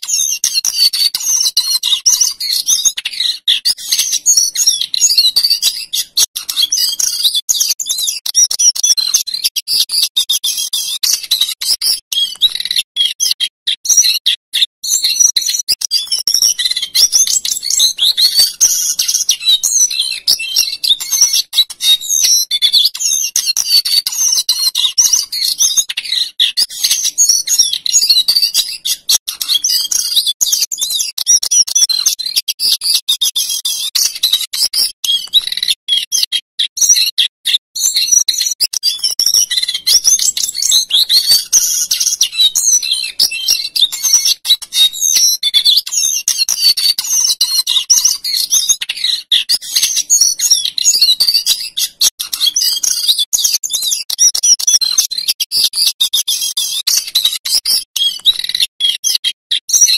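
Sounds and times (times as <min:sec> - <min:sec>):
bird singing rapid warbling song: 0:00.0 - 0:59.9.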